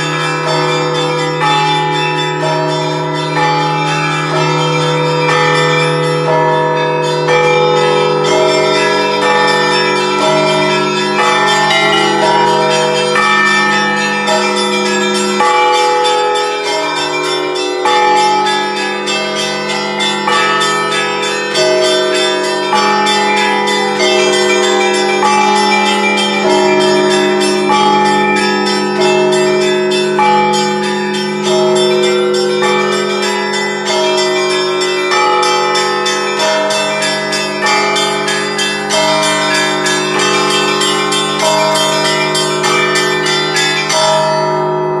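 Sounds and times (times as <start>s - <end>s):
large bells ringing low: 0.0s - 45.0s
small church bells striking: 0.0s - 45.0s.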